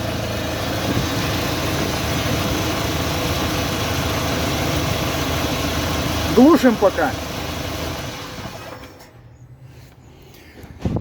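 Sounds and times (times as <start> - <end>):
engine knocking rattle: 0.0 - 9.1
petrol engine running: 0.0 - 9.2.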